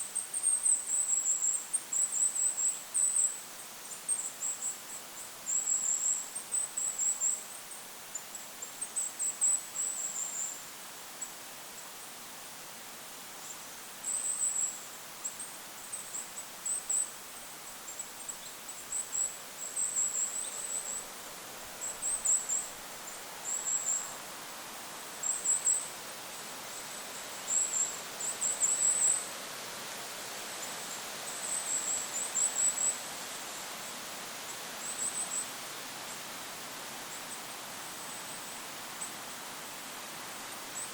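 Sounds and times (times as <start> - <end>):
wind hiss: 0.0 - 40.9.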